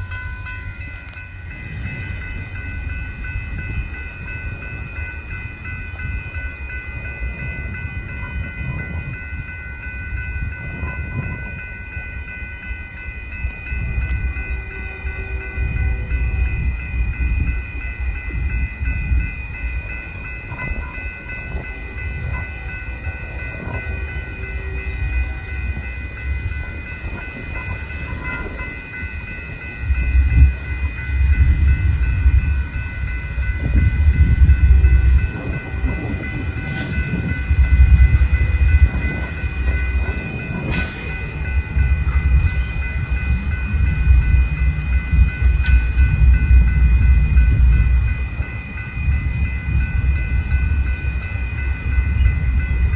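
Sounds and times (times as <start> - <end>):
diesel locomotive engine rumble: 0.0 - 52.9.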